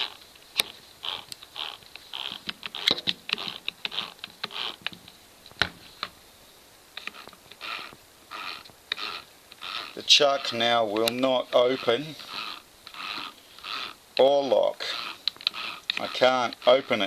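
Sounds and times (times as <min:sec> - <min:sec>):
drill chuck scraping: 0:00.0 - 0:05.0, 0:07.0 - 0:17.0
sharp clicks: 0:00.0 - 0:06.1, 0:07.0 - 0:14.3, 0:14.9 - 0:16.7.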